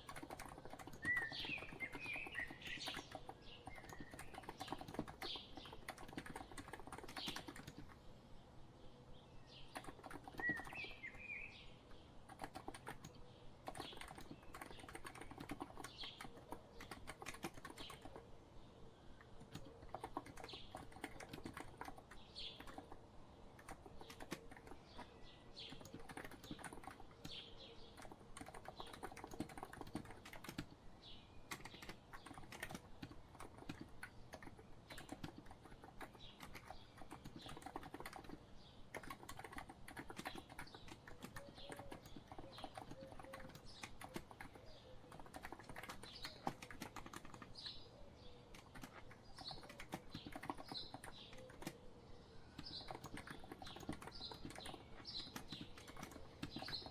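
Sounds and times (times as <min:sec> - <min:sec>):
keyboard typing: 0:00.0 - 0:08.0, 0:09.7 - 0:11.2, 0:12.2 - 0:18.3, 0:19.2 - 0:30.8, 0:31.4 - 0:47.8, 0:48.5 - 0:51.8, 0:52.5 - 0:56.9
birds chirping: 0:00.0 - 0:56.9.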